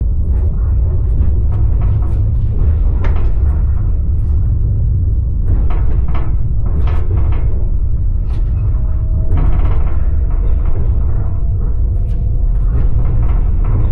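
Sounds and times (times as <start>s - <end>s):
train rumble: 0.0s - 13.9s.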